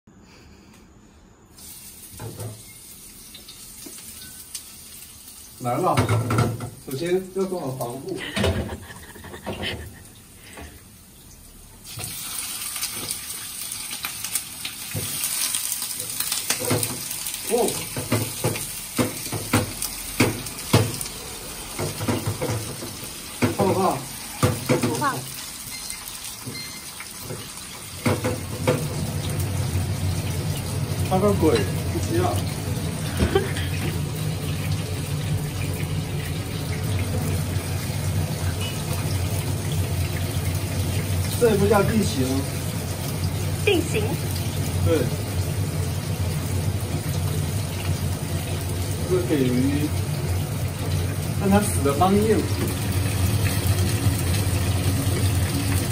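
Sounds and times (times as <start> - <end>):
fish sizzling in hot oil: 1.5 - 8.2, 10.0 - 55.9.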